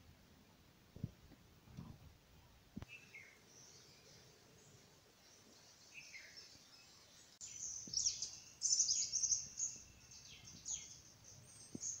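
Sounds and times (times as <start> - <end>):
small birds chirping: 2.3 - 12.0.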